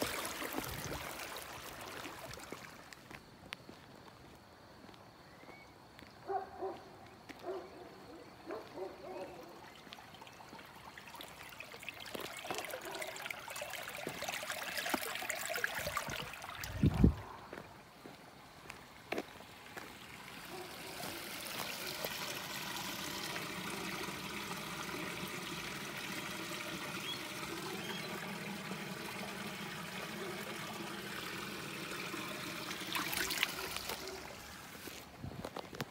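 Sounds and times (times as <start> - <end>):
water trickling and splashing: 0.0 - 3.3, 8.7 - 35.8.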